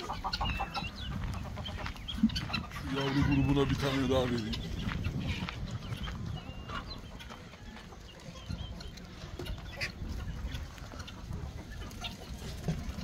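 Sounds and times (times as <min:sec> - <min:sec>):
chickens clucking and peeping: 0:00.0 - 0:13.0.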